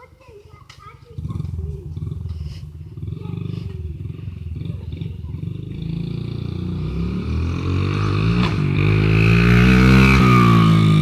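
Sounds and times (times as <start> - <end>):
dirt bike engine revving: 1.2 - 11.0.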